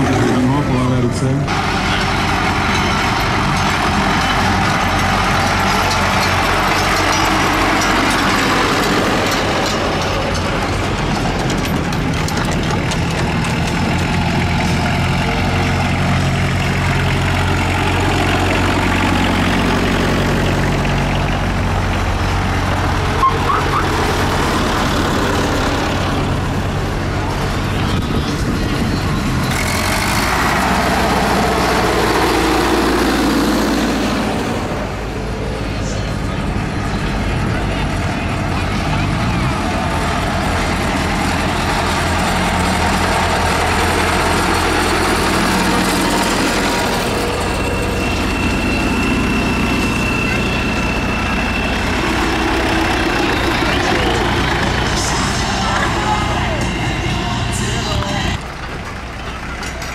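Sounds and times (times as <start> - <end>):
tractor engines running: 0.0 - 59.9.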